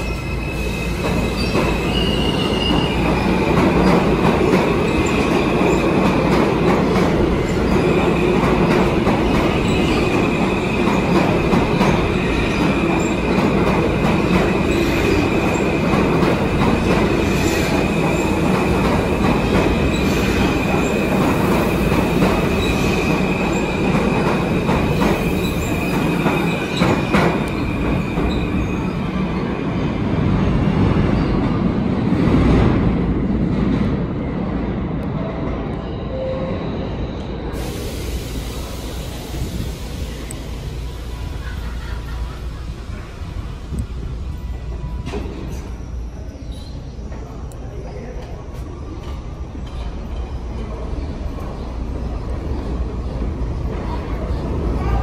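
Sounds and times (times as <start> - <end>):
subway wheels squealing: 0.0 - 55.0.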